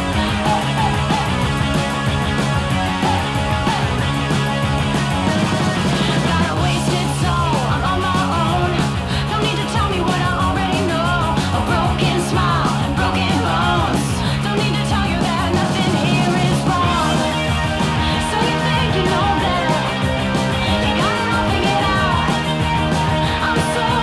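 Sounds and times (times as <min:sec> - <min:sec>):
bass line: 0:00.0 - 0:24.0
drums: 0:00.0 - 0:24.0.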